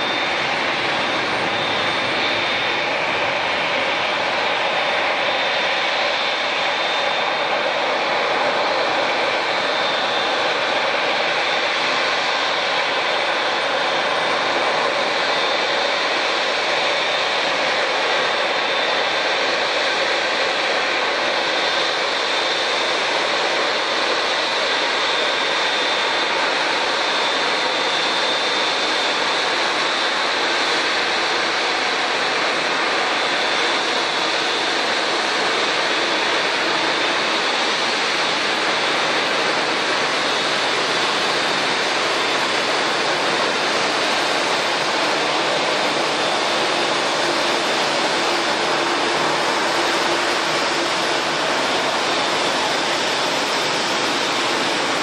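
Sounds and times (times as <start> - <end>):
jet engines hissing and whining: 0.0 - 55.0.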